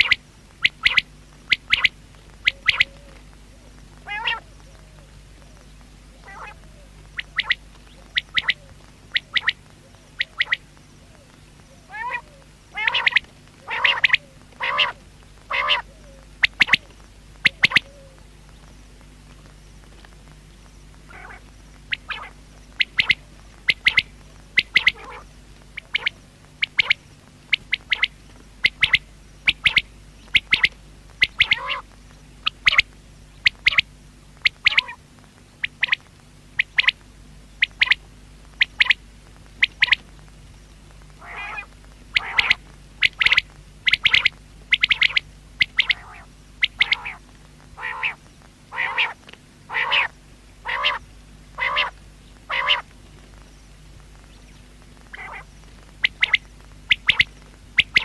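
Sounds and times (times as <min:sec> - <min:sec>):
quail calling: 0:00.0 - 0:18.2, 0:21.1 - 0:35.0, 0:35.6 - 0:37.0, 0:37.6 - 0:39.0, 0:39.6 - 0:40.1, 0:41.2 - 0:53.4, 0:54.2 - 0:58.0.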